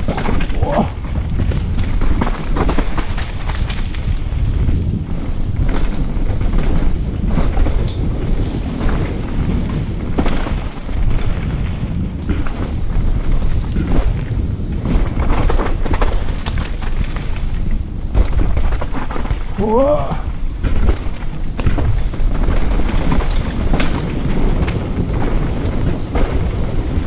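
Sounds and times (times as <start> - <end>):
bike knocks and rattles: 0.0 - 27.0
wind rumbling on microphone: 0.0 - 27.0.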